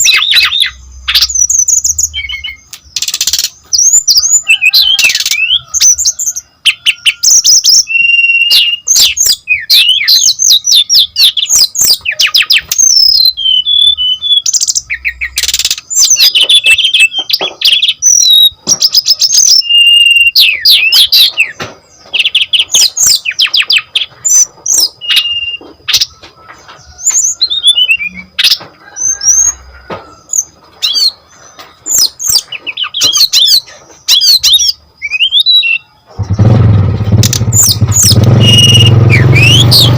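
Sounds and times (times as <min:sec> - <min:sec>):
bird singing trills and whistles: 0:00.0 - 0:36.4, 0:37.2 - 0:39.9.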